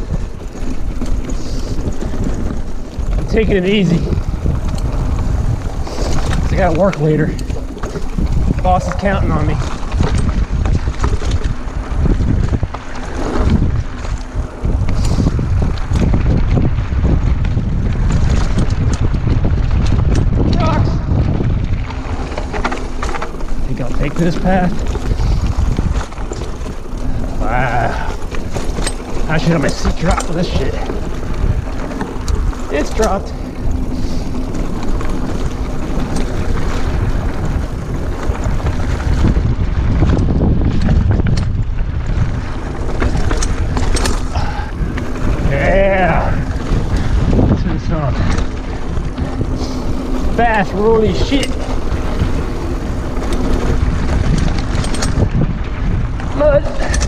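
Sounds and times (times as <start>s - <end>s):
bike rattling and knocking: 0.0s - 57.0s
wind rushing over microphone: 0.0s - 57.0s.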